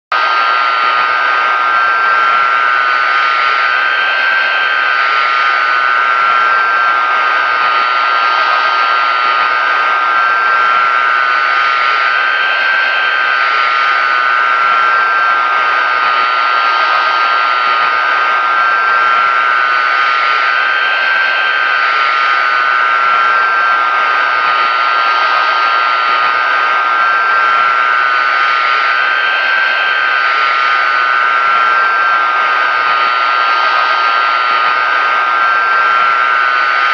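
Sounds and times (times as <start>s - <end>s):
high jet engine whine: 0.1s - 36.9s
jet engines droning: 0.1s - 36.9s.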